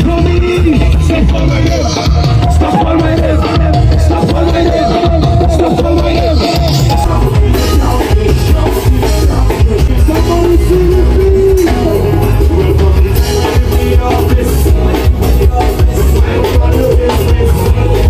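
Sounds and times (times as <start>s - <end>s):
driving drum beat: 0.0s - 18.0s
heavy bass: 0.0s - 18.0s
person singing: 0.0s - 18.0s.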